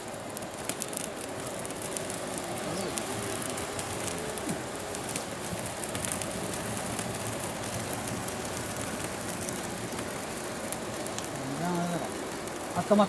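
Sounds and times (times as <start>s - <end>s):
fire hissing and crackling: 0.0s - 13.0s.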